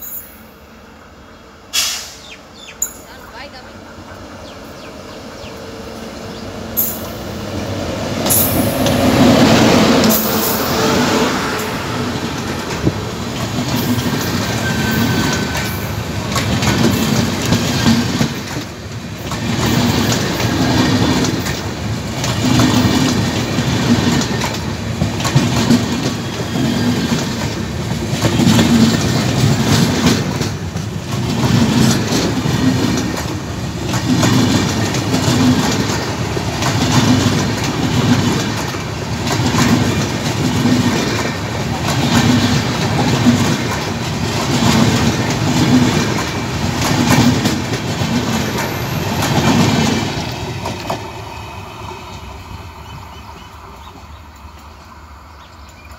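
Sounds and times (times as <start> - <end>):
train passing rumble: 0.0 - 55.9
wheels clattering on rail: 6.3 - 51.2.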